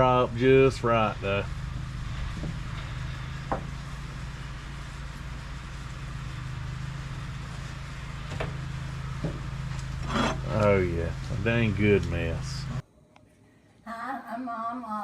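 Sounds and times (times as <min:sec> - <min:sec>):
low engine hum: 0:00.0 - 0:12.8.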